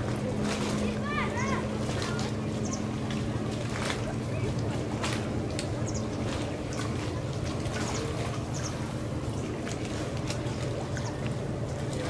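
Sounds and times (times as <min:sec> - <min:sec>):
steady low hum: 0:00.0 - 0:12.0
water splashing and lapping: 0:00.0 - 0:12.0.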